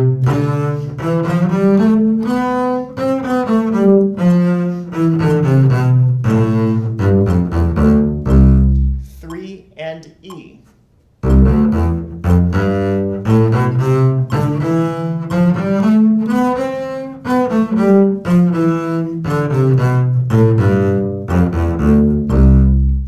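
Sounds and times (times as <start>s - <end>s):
bowed double bass scale: 0.0s - 9.1s, 11.2s - 23.0s.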